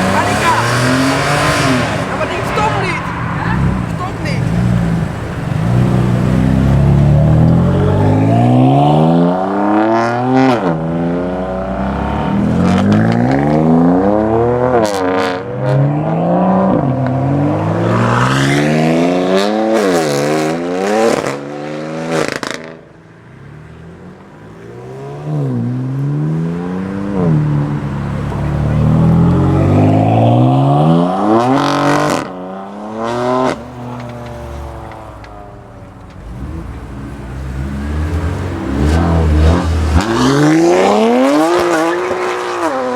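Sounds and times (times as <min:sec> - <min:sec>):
car engines accelerating hard: 0:00.0 - 0:42.9.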